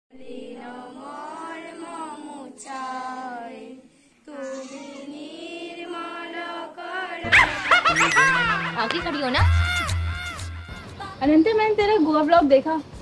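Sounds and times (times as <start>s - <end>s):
young voices singing a prayer: 0.1s - 11.2s.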